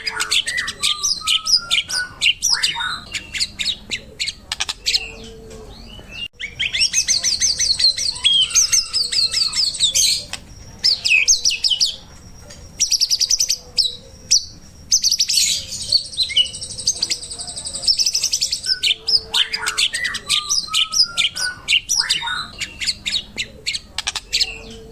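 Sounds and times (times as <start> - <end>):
bird singing fast trills: 0.0 - 24.9.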